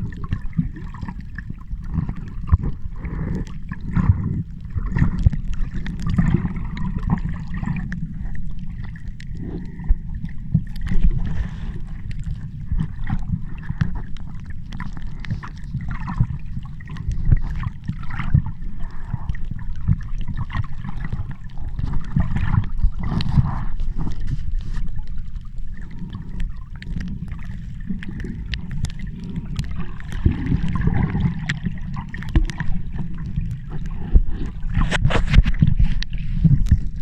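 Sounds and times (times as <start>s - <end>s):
sea water sloshing and gurgling: 0.0s - 37.0s.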